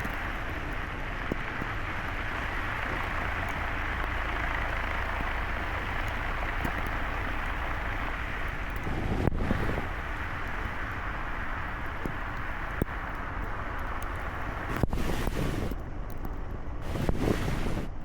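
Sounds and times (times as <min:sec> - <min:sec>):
tyre noise on slushy road: 0:00.0 - 0:18.0.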